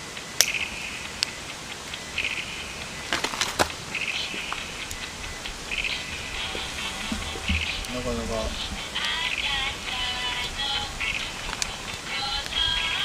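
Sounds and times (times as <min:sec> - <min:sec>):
campfire crackling and popping: 0:00.1 - 0:13.0.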